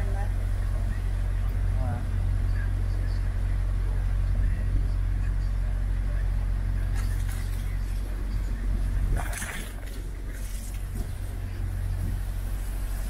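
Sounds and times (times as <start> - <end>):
boat diesel engine humming: 0.0 - 13.0.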